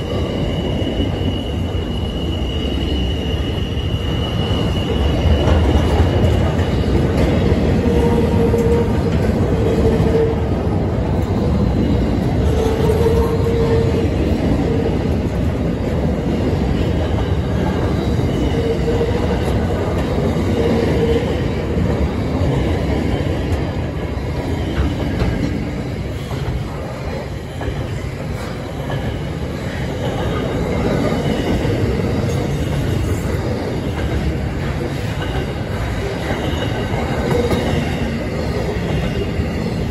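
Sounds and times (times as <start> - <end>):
train wheels squealing: 0.0 - 23.7, 24.3 - 39.9
train wheels rumbling on rail: 0.0 - 39.9.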